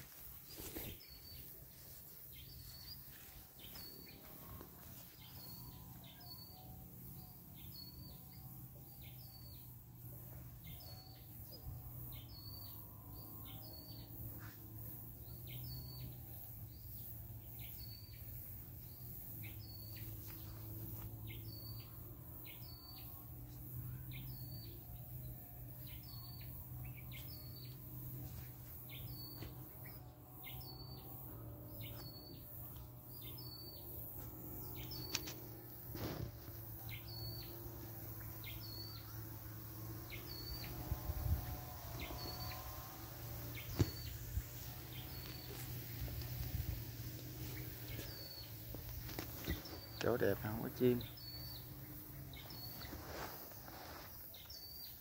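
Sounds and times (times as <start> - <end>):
faint low drone: 0.0 - 55.0.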